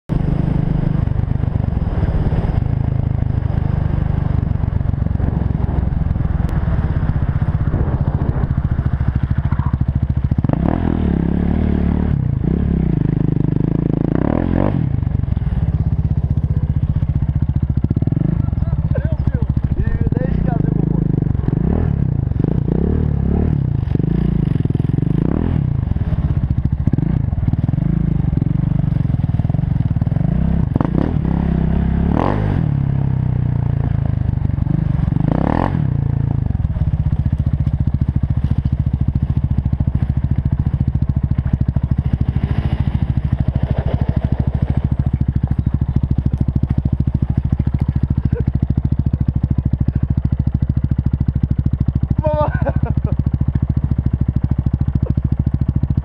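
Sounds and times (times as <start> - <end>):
motorcycle engine revving and idling: 0.1 - 56.0.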